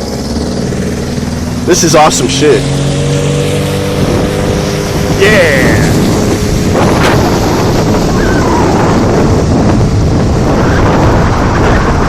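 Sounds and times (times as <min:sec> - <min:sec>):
boat engine: 0:00.0 - 0:12.0
rushing water: 0:00.0 - 0:12.0
wind buffeting microphone: 0:00.0 - 0:12.0.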